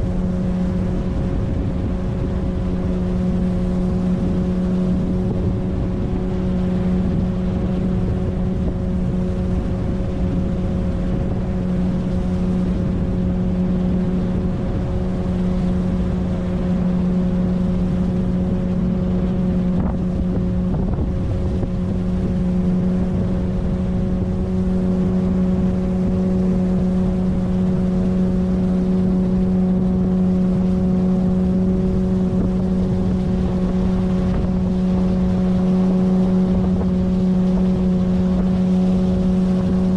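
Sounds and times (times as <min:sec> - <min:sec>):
outboard motor running: 0:00.0 - 0:39.9
rushing water noise: 0:00.0 - 0:39.9.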